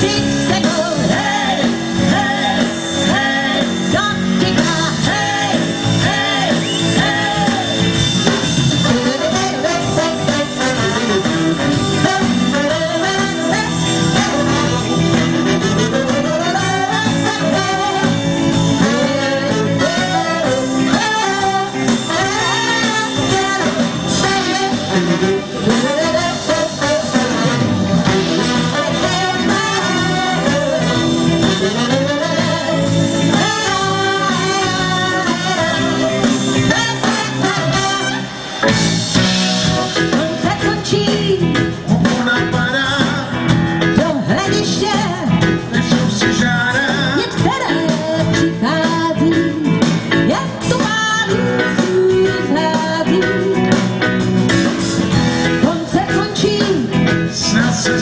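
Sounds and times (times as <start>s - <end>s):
woman singing lead vocal: 0.0s - 8.0s, 8.8s - 14.8s, 15.8s - 27.4s, 28.0s - 38.2s, 39.9s - 53.9s, 55.4s - 58.0s
live rock band playing: 0.0s - 58.0s.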